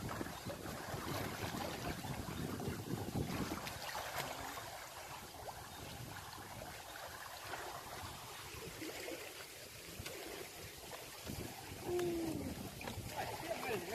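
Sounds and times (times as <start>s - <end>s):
floodwater rushing and trickling: 0.0s - 13.9s.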